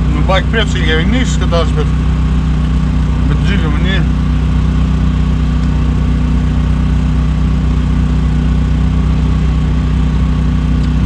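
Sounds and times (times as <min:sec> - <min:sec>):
petrol generator humming: 0:00.0 - 0:11.0.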